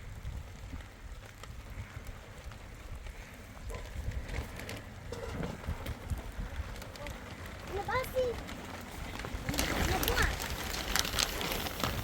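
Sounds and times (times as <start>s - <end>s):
wind gusting against microphone: 0.0s - 12.0s.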